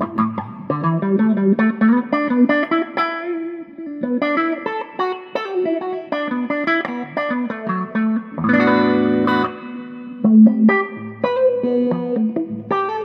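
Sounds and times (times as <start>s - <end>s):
electric guitar with auto-wah: 0.0s - 13.0s.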